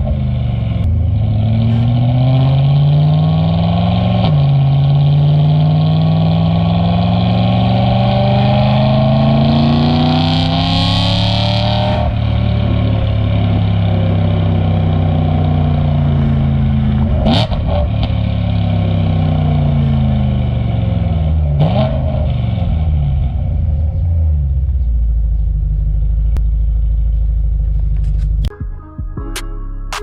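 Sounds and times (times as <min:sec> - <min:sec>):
car engine revs falling: 0:00.0 - 0:24.8
car engine idling: 0:00.0 - 0:28.5.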